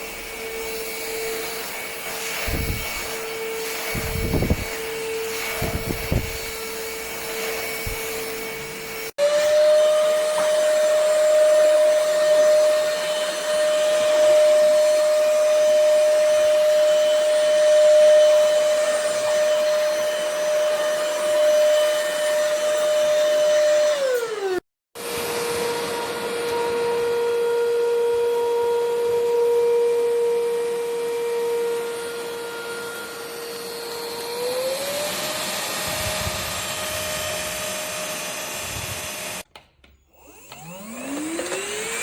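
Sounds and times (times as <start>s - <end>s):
cordless vacuum whining: 0.0s - 42.0s.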